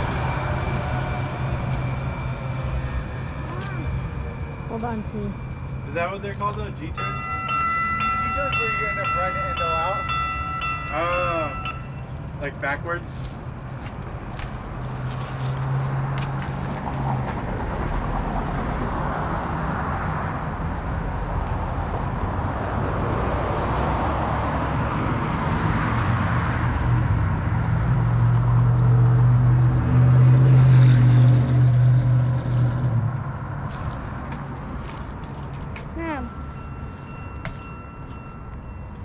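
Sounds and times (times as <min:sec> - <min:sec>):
tyre noise of passing traffic: 0:00.0 - 0:39.0
vehicle engine hum: 0:00.0 - 0:39.0.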